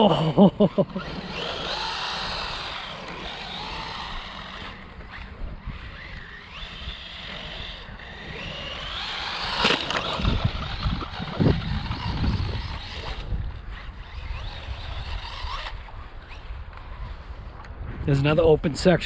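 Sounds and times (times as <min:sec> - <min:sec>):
electric rc car motor whining: 0:00.0 - 0:17.5.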